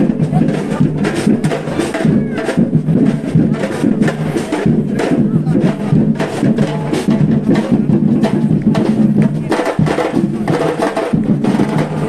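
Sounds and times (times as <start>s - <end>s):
live hand percussion and drums: 0.0s - 12.0s.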